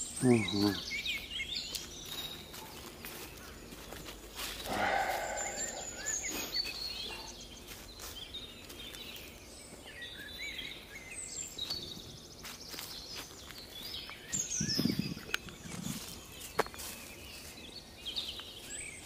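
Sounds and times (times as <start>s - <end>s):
songbirds chirping: 0.0s - 19.0s
footsteps crunching dry leaves: 0.9s - 19.0s.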